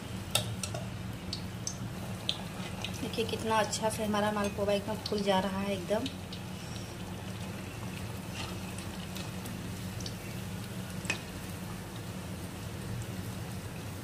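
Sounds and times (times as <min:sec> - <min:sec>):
batter sizzling in hot oil: 0:00.0 - 0:14.0.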